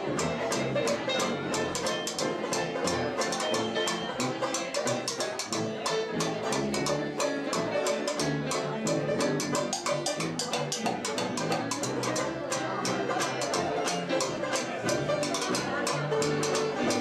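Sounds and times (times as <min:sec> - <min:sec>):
band playing blues: 0:00.0 - 0:17.0.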